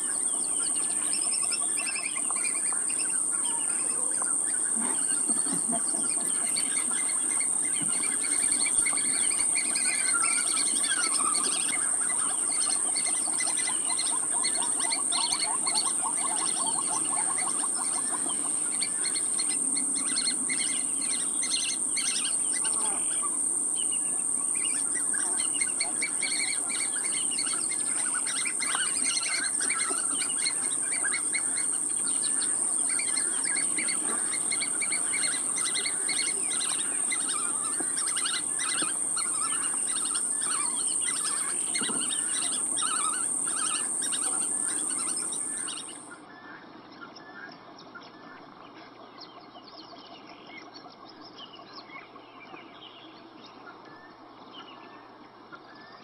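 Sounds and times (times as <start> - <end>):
high-pitched whine: 0.0 - 46.2
birds chirping: 0.0 - 46.6.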